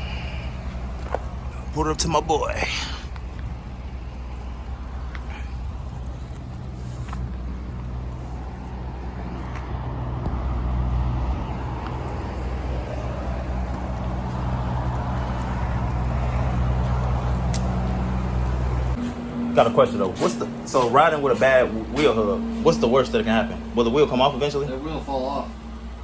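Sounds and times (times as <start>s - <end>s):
car engine hum: 0.0s - 26.0s
road and tyre noise: 0.0s - 26.0s.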